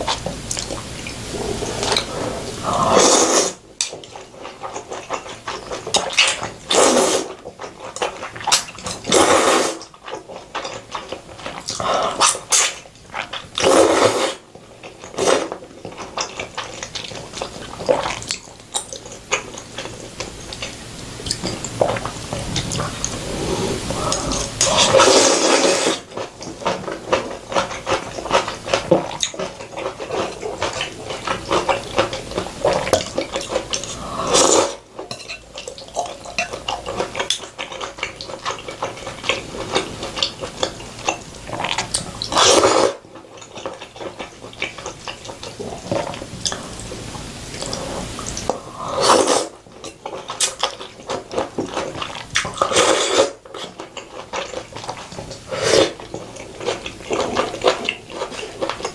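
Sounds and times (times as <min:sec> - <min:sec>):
eating noises: 0:00.0 - 0:58.9.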